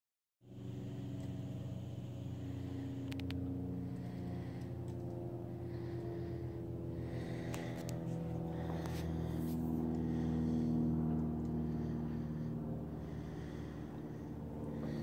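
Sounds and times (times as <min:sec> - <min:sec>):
low hum: 0:00.4 - 0:15.0.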